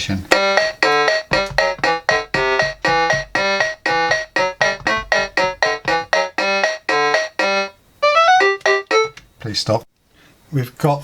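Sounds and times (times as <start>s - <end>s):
low accompaniment: 0.3s - 9.2s
electronic keyboard notes: 0.3s - 9.3s.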